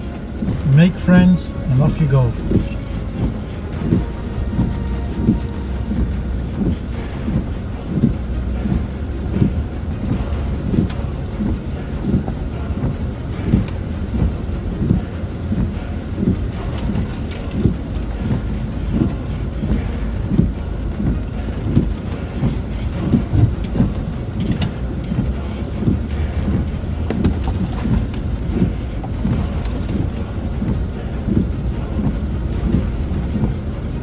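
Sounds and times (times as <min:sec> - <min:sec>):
engine and drivetrain rumble: 0:00.0 - 0:34.0.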